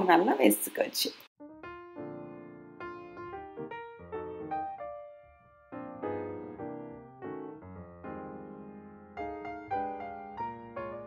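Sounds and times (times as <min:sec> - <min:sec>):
piano music: 0:01.4 - 0:11.0.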